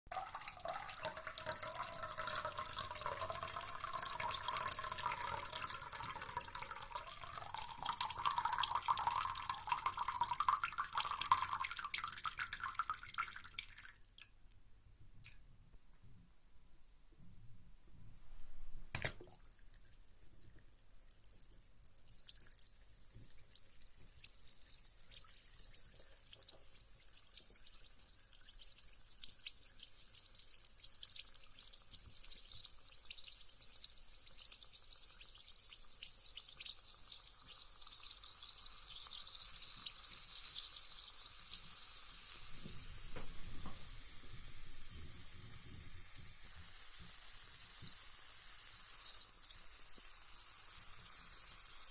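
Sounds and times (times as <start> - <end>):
bath bomb fizzing: 0.1 - 14.1, 19.0 - 51.9.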